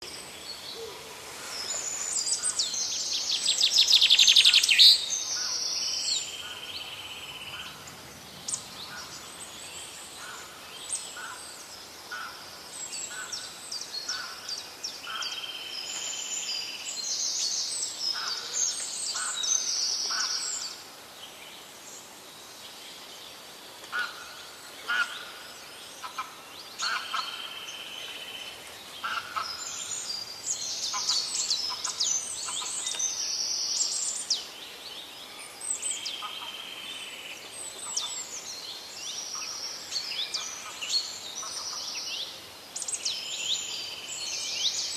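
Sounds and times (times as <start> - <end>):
songbirds singing: 0.0 - 44.9.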